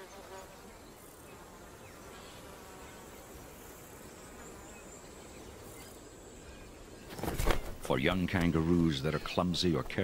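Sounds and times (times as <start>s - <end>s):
faint insect buzzing: 0.0s - 9.3s.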